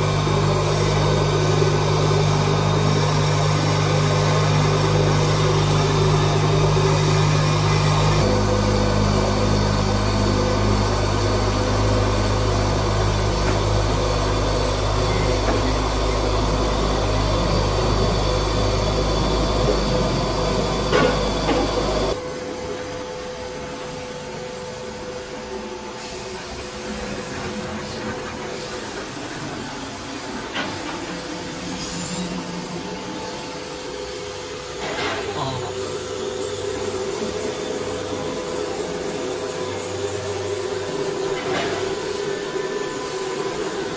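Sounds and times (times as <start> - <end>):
cutting machine humming: 0.0 - 43.9
machine whine: 0.0 - 43.9.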